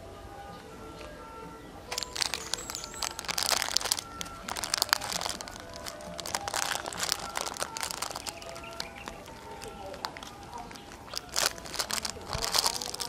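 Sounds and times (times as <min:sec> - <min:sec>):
quiet background music: 0:00.0 - 0:13.0
sharp crackling and crunching clicks: 0:01.9 - 0:13.0.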